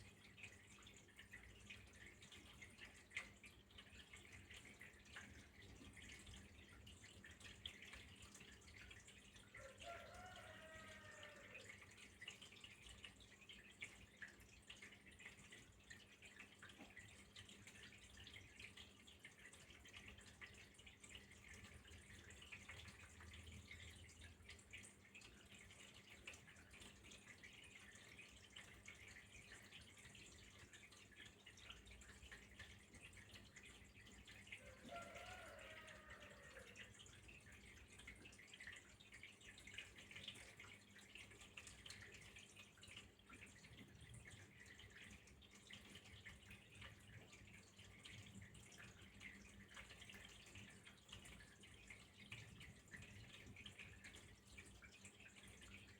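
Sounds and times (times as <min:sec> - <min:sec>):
water trickling and dripping: 0:00.0 - 0:55.9.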